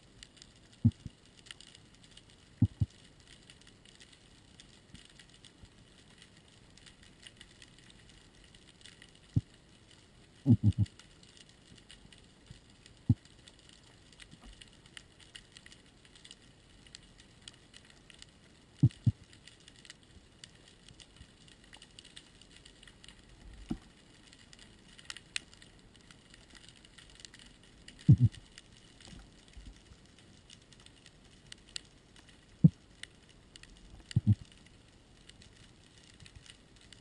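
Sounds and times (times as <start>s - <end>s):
snapping shrimp crackle: 0.0s - 37.0s.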